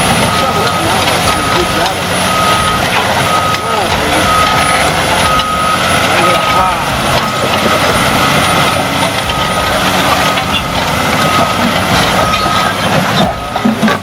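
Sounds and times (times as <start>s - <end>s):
heavy machine running: 0.0s - 14.0s.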